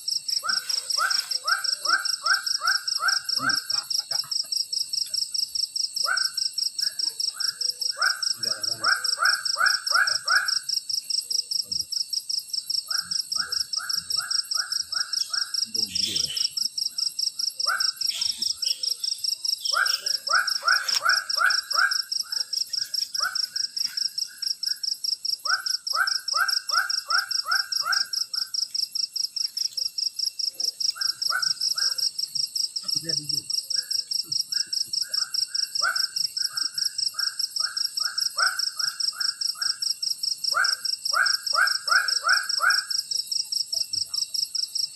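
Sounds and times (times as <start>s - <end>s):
insect chorus buzzing: 0.0s - 44.9s.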